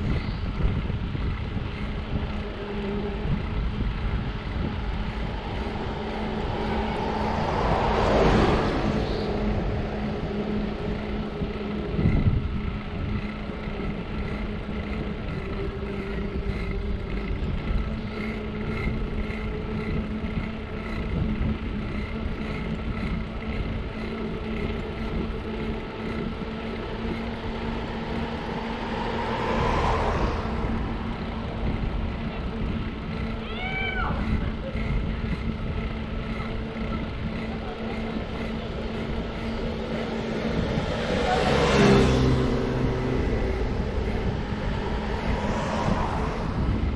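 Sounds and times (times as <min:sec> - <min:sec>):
bus passing: 0:00.0 - 0:46.9
wind and tyre rumble: 0:00.0 - 0:46.9
vehicle passing: 0:01.2 - 0:46.9.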